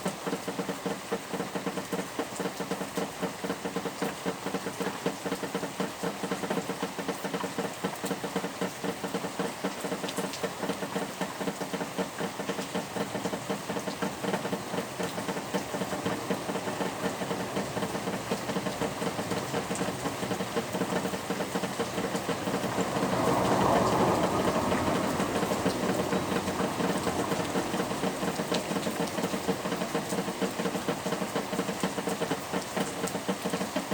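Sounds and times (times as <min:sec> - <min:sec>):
heavy rainfall: 0:00.0 - 0:33.9.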